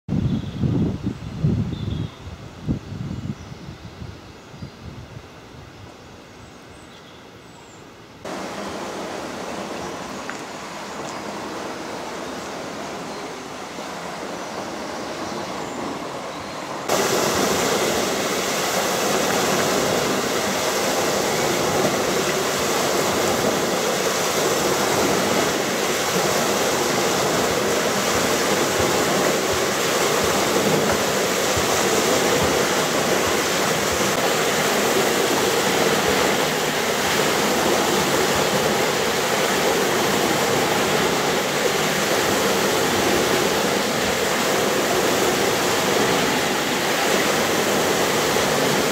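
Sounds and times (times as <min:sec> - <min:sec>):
outdoor background: 0:00.1 - 0:48.9
water splashing from water wheel: 0:08.2 - 0:48.9.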